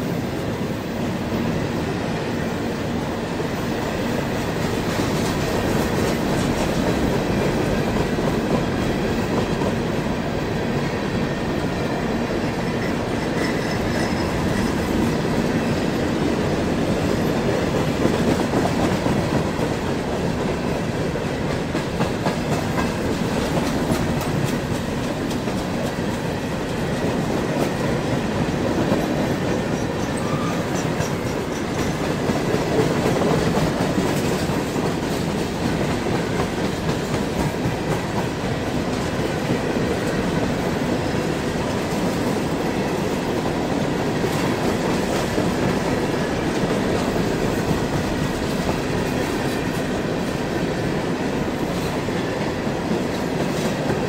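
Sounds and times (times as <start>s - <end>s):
freight train rumble: 0.0s - 54.0s.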